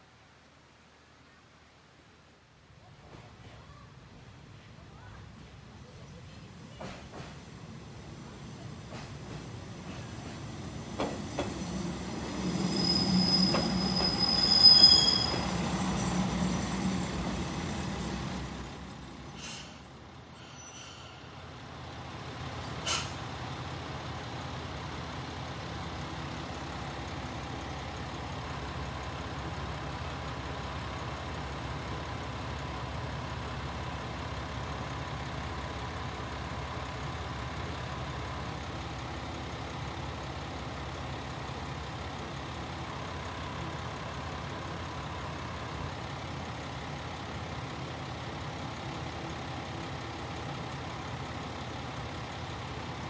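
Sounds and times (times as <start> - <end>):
diesel railcar engine idling: 3.9 - 53.0.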